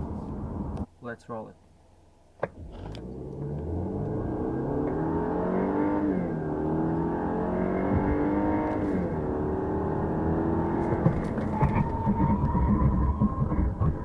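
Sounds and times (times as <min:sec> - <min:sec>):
car engine accelerating: 0:02.4 - 0:14.0.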